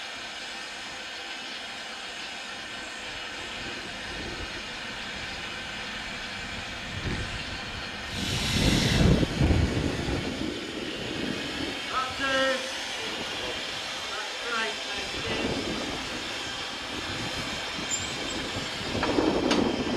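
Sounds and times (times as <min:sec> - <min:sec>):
steam locomotive rushing: 0:00.0 - 0:19.9.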